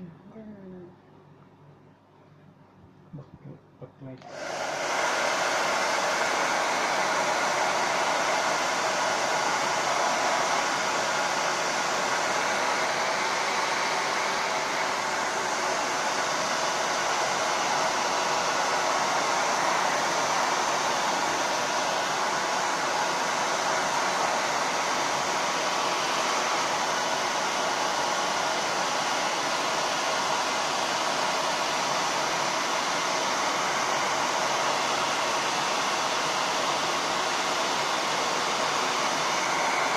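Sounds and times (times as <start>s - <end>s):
hair dryer blowing air: 4.2s - 39.9s.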